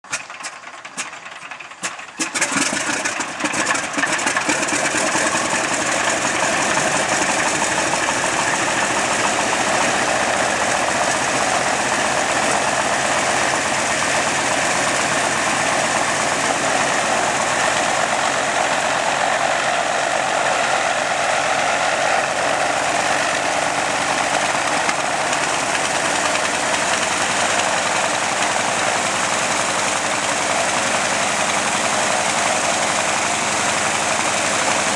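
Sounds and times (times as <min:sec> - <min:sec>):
radial aircraft engine running: 0:00.1 - 0:34.9.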